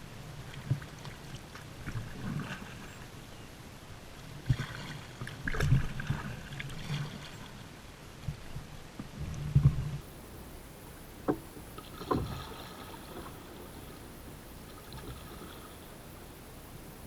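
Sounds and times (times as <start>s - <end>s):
paddle strokes in water: 0.0s - 3.2s, 4.1s - 17.0s.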